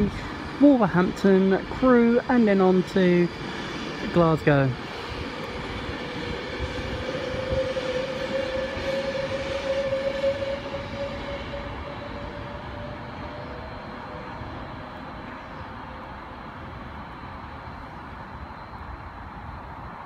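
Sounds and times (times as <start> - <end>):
electric train whine: 0.0 - 20.0
train rumble: 0.0 - 20.0.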